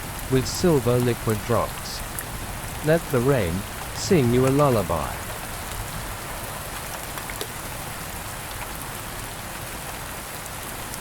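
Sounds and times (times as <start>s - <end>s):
raindrops ticking: 0.0s - 9.0s
rain hiss: 0.0s - 11.0s.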